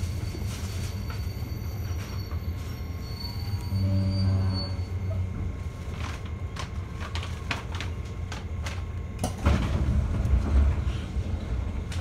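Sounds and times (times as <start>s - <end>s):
train low hum: 0.0s - 12.0s.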